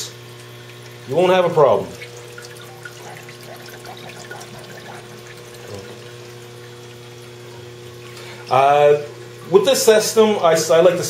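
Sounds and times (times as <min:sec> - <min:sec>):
low electrical hum: 0:00.0 - 0:11.0
water trickling: 0:00.0 - 0:11.0.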